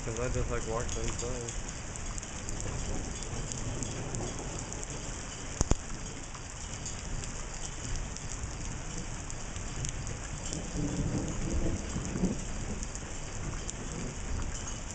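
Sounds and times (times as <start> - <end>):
raindrop clicks: 0.0 - 14.9
steady rain: 0.0 - 14.9.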